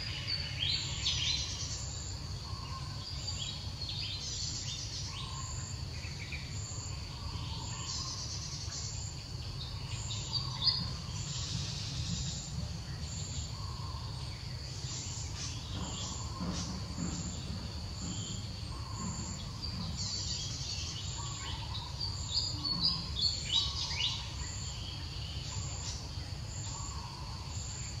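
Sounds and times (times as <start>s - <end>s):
bird calls: 0.0s - 28.0s
insects chirping: 0.0s - 28.0s
low steady rumble: 0.0s - 28.0s.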